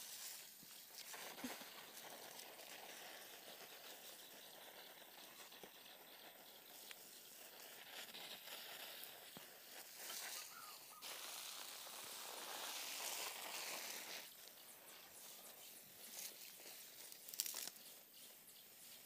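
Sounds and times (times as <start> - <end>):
garden hose spraying water: 0.0 - 19.0.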